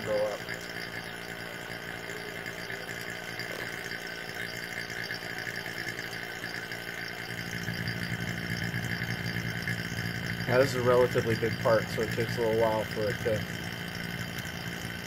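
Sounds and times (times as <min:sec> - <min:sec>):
electric vacuum pump humming: 0:00.0 - 0:15.0.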